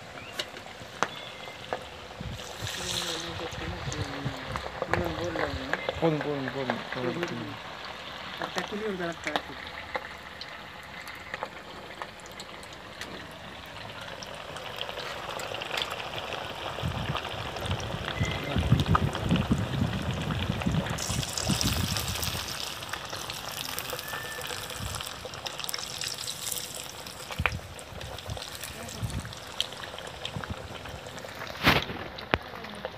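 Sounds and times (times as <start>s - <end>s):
fish sizzling in hot oil: 0.0s - 32.9s.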